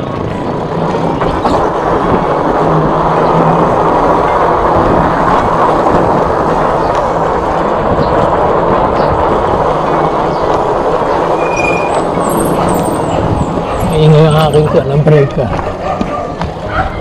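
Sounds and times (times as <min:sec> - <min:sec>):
wind rushing past: 0:00.6 - 0:14.6.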